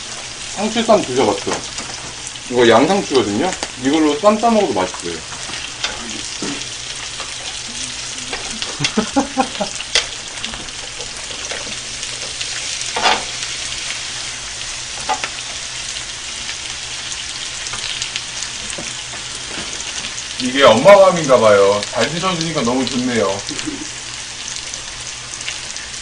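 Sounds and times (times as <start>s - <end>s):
meat sizzling on a griddle: 0.0s - 26.0s.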